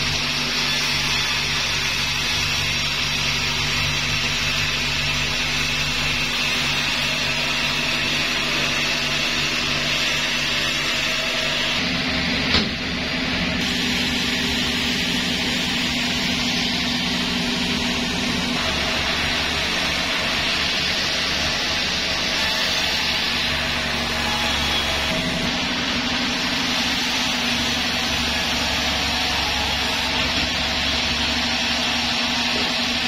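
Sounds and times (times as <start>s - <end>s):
sawmill saw motor humming: 0.0s - 33.0s.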